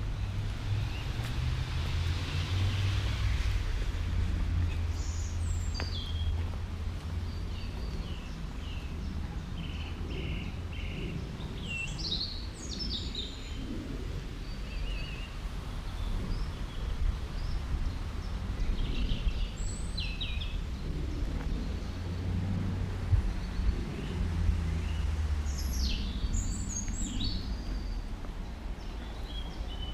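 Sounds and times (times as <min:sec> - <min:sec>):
steady low rumble: 0:00.0 - 0:29.9
wild birds singing and calling: 0:00.0 - 0:29.9.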